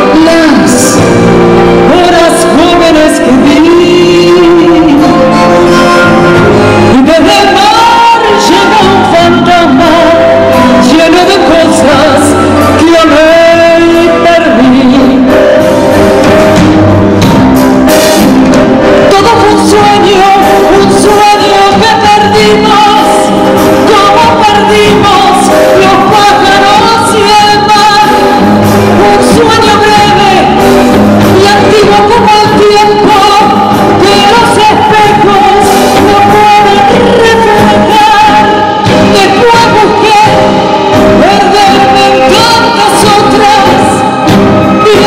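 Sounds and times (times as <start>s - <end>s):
instrumental accompaniment: 0.0s - 45.0s
woman singing tango: 1.8s - 15.7s, 18.8s - 30.6s, 31.3s - 45.0s.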